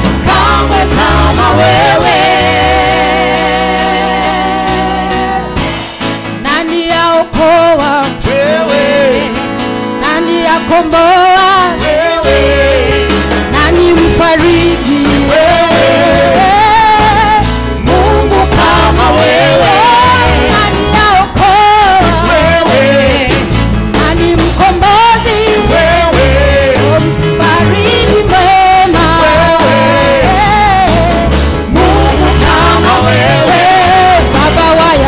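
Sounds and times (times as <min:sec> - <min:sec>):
voices singing: 0:00.0 - 0:05.5, 0:10.6 - 0:23.5, 0:24.2 - 0:35.0
steady drum beat: 0:00.0 - 0:06.2, 0:11.4 - 0:35.0
bass: 0:00.0 - 0:35.0
keyboard: 0:00.0 - 0:35.0.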